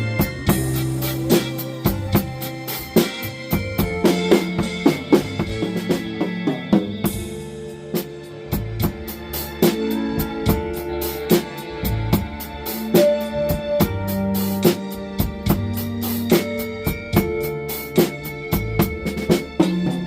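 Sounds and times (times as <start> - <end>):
blues backing track: 0.0 - 20.0
drum kit playing blues groove: 0.0 - 20.0.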